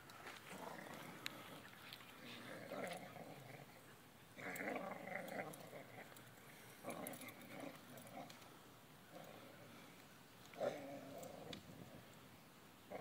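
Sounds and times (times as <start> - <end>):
dogs growling in play: 0.4 - 9.9, 10.5 - 12.2.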